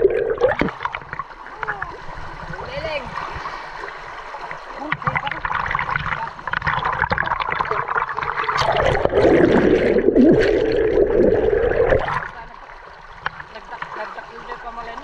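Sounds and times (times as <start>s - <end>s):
muffled underwater rushing: 0.0s - 15.0s
river current splashing: 0.0s - 15.0s.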